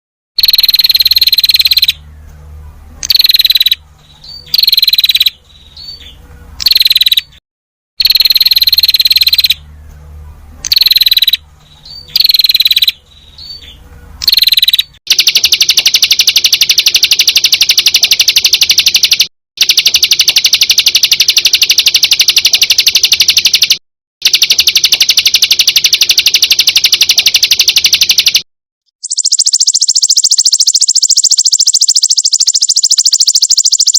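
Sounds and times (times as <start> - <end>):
fast buzzing trill: 0.4 - 2.0, 3.0 - 5.9, 6.6 - 7.4, 8.0 - 9.6, 10.6 - 13.0, 14.2 - 28.4, 29.0 - 33.9.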